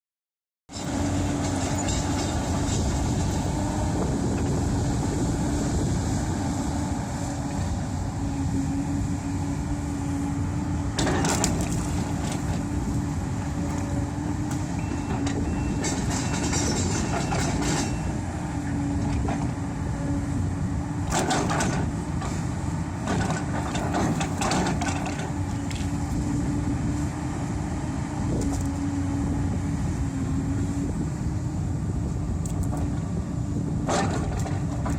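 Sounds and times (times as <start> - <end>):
excavator diesel engine humming: 0.7 - 34.9.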